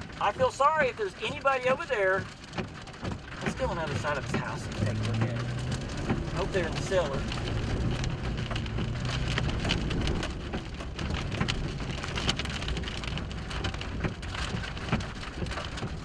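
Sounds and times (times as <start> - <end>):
heavy rain on car roof: 0.0 - 16.0
low engine hum: 0.0 - 16.0.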